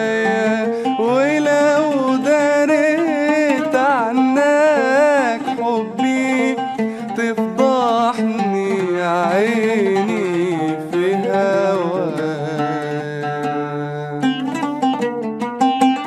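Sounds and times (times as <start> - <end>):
man singing: 0.0 - 15.2
oud playing: 0.0 - 16.0.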